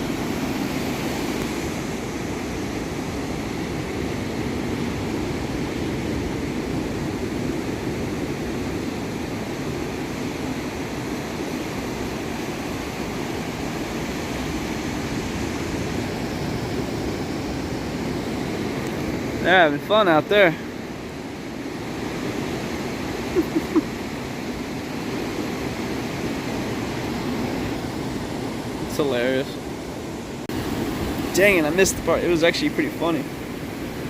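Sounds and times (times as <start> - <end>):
ocean waves washing up beach: 0.0 - 34.0.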